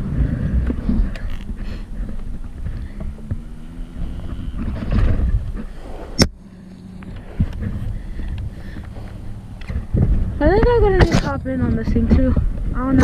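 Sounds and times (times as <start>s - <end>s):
dirt bike engine rumbling: 0.0s - 13.0s.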